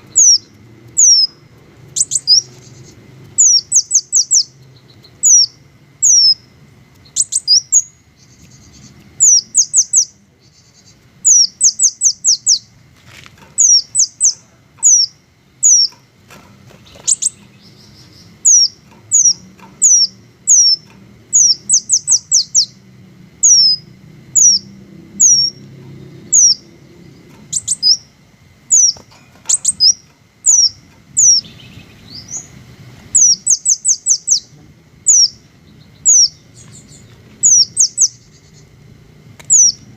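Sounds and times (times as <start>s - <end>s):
hummingbird high chirps: 0.0s - 12.8s, 13.6s - 16.1s, 16.8s - 39.9s.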